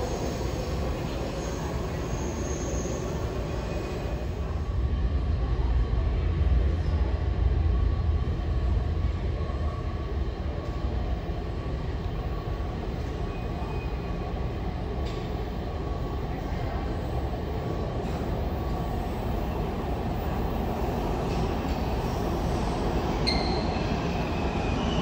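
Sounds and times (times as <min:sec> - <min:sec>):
subway train rumble: 0:00.0 - 0:25.0.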